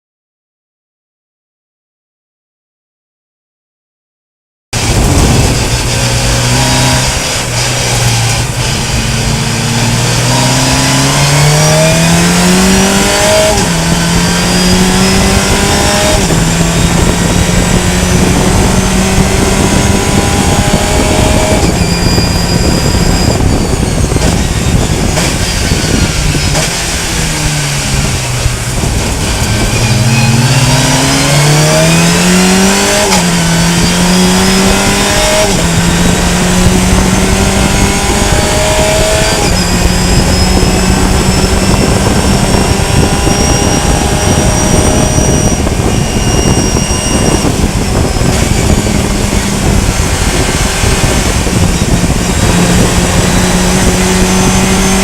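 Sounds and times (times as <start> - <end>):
race car engine accelerating: 4.8 - 55.0.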